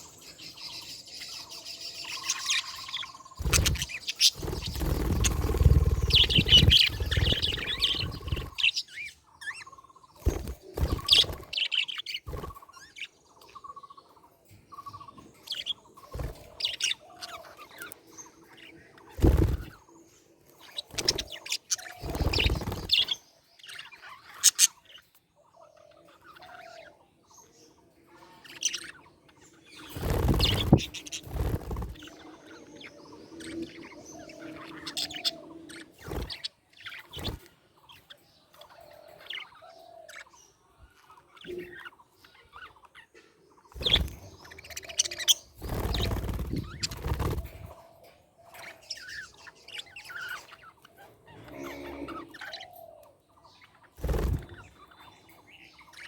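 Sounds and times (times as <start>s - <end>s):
budgerigars chirping: 0.0s - 19.9s, 20.5s - 56.0s.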